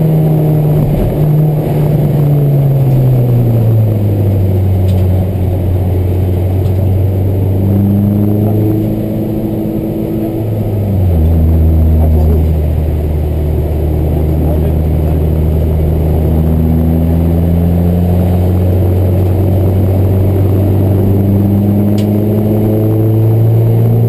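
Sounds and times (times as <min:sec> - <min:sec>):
car engine under load: 0:00.0 - 0:24.0.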